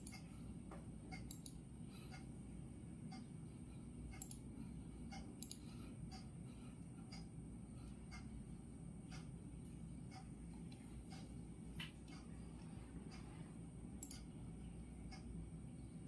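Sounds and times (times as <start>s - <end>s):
faint clock ticking: 0.0s - 16.0s
low background noise: 0.0s - 16.0s.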